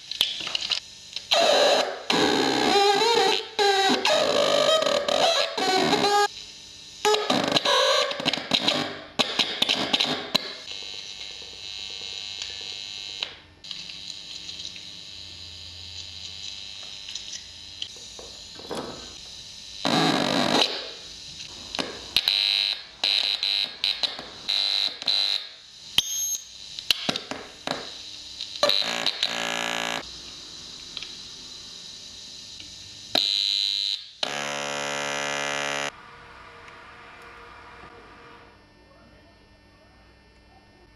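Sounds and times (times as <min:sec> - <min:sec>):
high electronic whine: 0:00.0 - 0:38.8
harsh alarm-like buzzing: 0:00.8 - 0:38.7.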